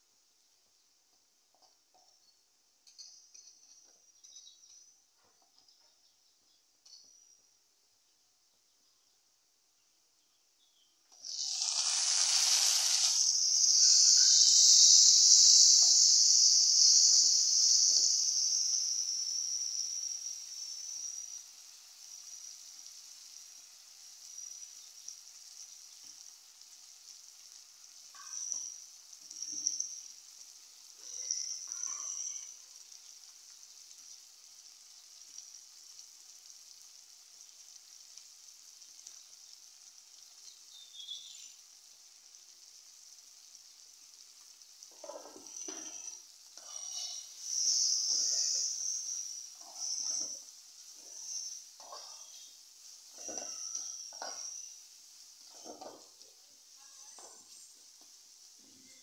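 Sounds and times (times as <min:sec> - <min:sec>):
tomatoes sizzling in oil: 0:00.0 - 0:59.0.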